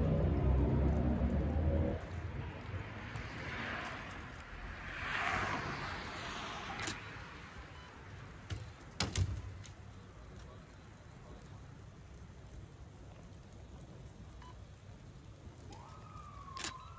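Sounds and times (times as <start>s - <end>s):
car fire rushing and hissing: 0.0s - 16.9s
fire popping and cracking: 2.0s - 16.9s.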